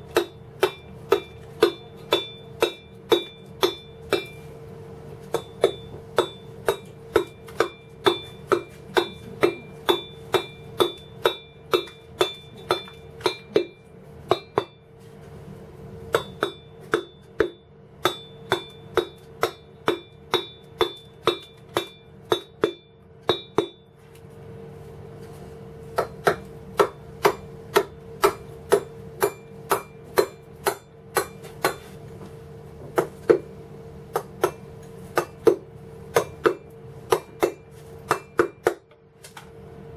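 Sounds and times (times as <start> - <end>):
steady low hum: 0.0 - 39.9
mallet striking chisel into stone: 0.1 - 4.4, 5.3 - 14.8, 16.1 - 23.8, 26.0 - 31.9, 34.1 - 39.0.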